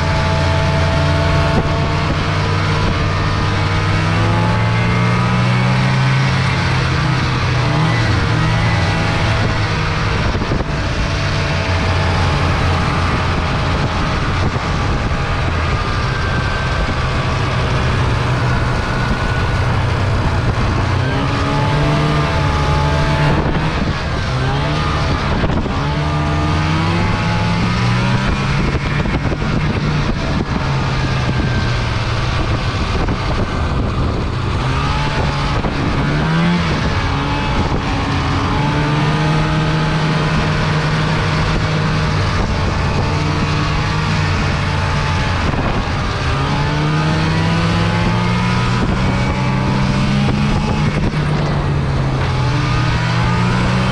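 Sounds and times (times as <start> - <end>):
snowmobile engine revving: 0.0 - 53.9
steady rush of noise: 0.0 - 53.9.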